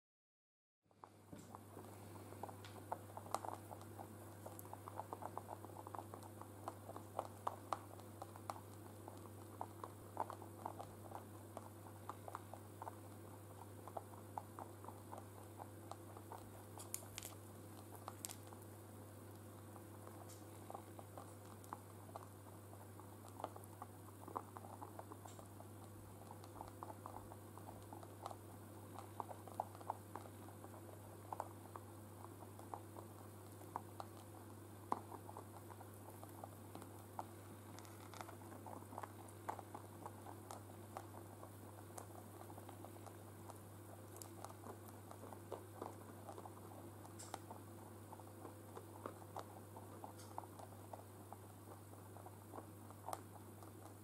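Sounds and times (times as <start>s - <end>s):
rabbits chewing hay: 0.9s - 54.0s
steady low hum: 0.9s - 54.0s.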